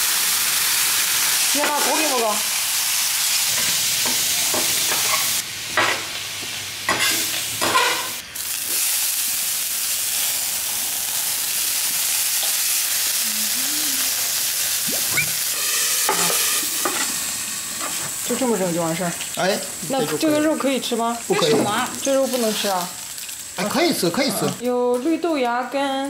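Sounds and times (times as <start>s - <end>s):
meat sizzling on a griddle: 0.0s - 26.0s.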